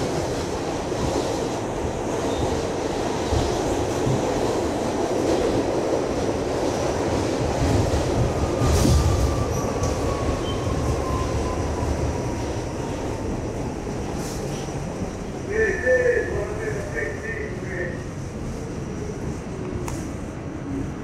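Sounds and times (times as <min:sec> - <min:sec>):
subway train wheels rumbling on rail: 0:00.0 - 0:21.0.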